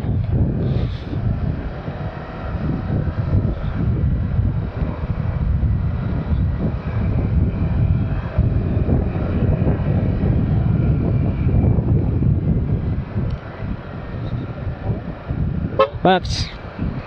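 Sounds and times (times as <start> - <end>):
scooter engine running: 0.0 - 16.0
wind rushing over microphone: 0.0 - 17.0.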